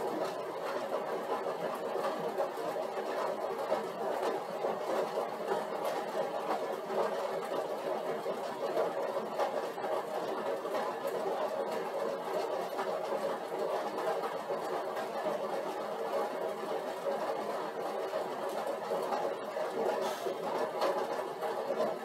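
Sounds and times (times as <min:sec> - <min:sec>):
exercise bike whirring: 0:00.0 - 0:22.0.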